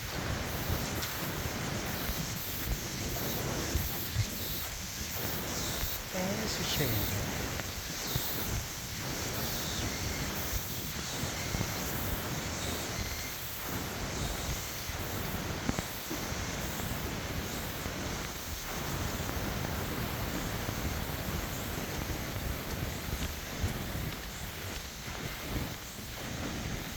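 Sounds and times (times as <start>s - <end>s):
steady rain hiss: 0.0s - 26.9s
wind rumbling on microphone: 0.0s - 26.9s.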